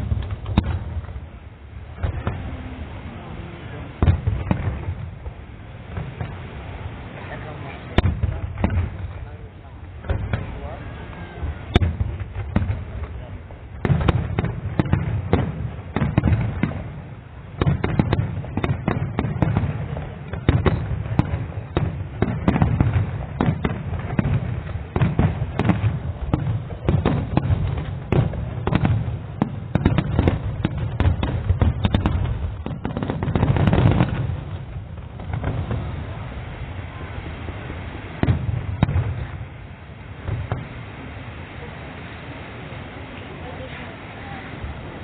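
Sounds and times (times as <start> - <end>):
fireworks crackling and booming: 0.0 - 45.0.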